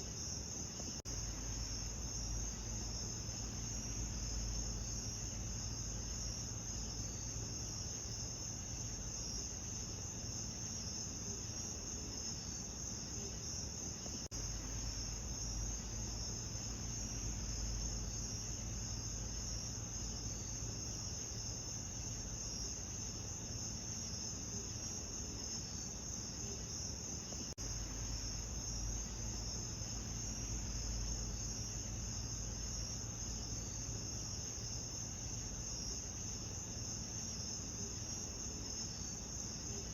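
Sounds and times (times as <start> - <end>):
trilling insects: 0.0 - 39.9.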